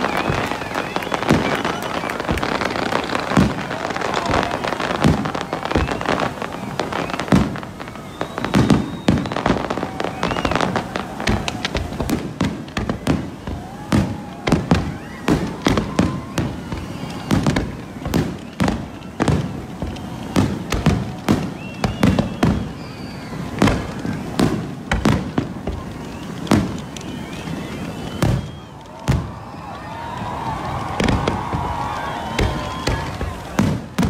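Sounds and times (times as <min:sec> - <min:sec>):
fireworks bursting: 0:00.0 - 0:34.0.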